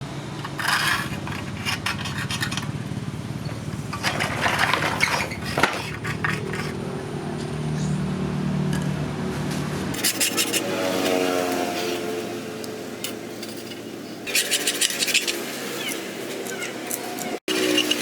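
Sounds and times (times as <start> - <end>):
metal scraping and clattering: 0.3 - 7.6, 8.7 - 18.0.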